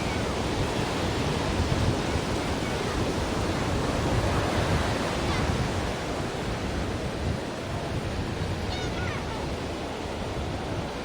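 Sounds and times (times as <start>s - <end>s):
ocean waves roaring: 0.0s - 11.0s.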